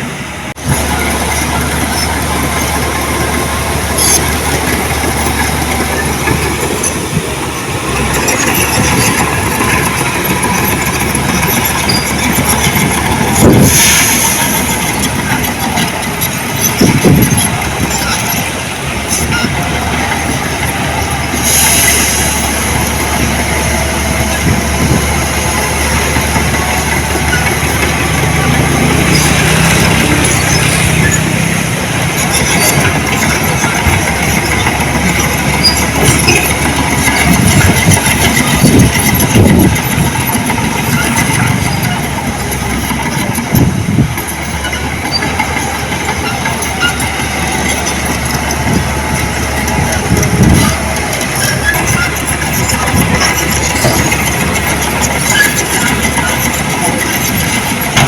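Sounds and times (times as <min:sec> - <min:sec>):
heavy machinery diesel engines: 0:00.0 - 0:58.0
machinery clanking: 0:00.0 - 0:58.0.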